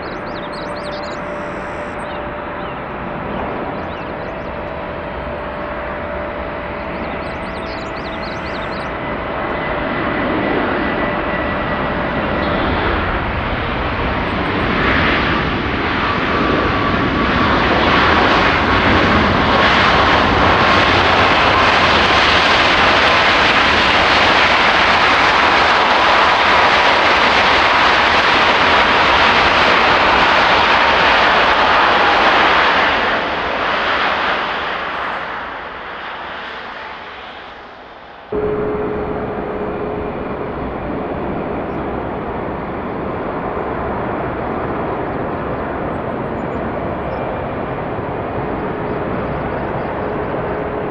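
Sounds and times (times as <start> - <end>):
jet airliner passing: 0.0 - 50.9
jet engine whine: 0.0 - 50.9.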